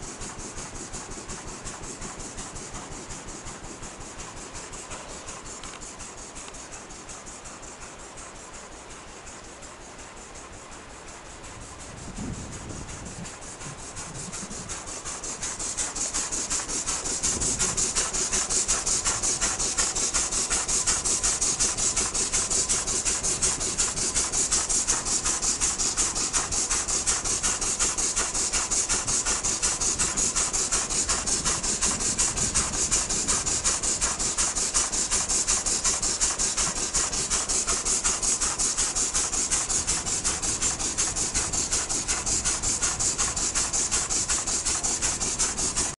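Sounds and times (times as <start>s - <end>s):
steam engine beat: 0.0s - 45.9s
steam hiss: 0.0s - 45.9s.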